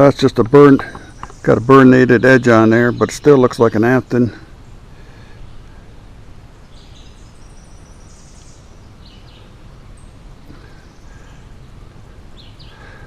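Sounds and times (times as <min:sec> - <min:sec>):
low rumble of background noise: 0:00.0 - 0:13.0
songbirds chirping: 0:00.0 - 0:13.0.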